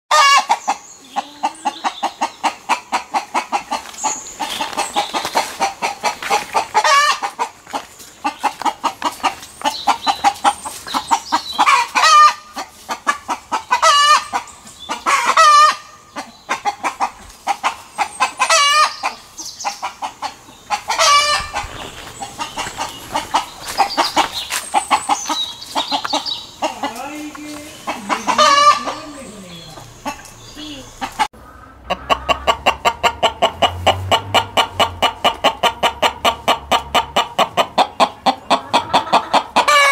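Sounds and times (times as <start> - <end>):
chickens clucking: 0.1 - 39.9
roosters crowing: 0.1 - 39.9.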